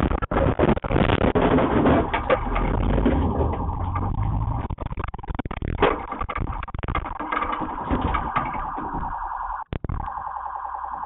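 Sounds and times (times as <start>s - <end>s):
knocks and rattles in car: 0.0s - 9.3s
car engine rumble: 0.0s - 9.8s.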